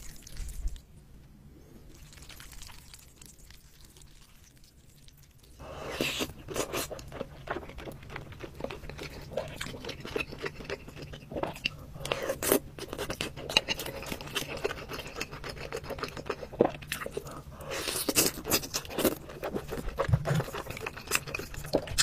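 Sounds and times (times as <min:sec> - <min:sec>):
low steady hum: 0:00.0 - 0:22.0
wet chewing and smacking: 0:01.9 - 0:22.0.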